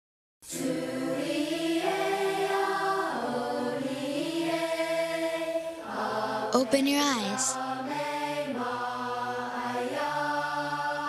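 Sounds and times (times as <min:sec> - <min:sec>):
choir singing long held notes: 0:00.5 - 0:11.0.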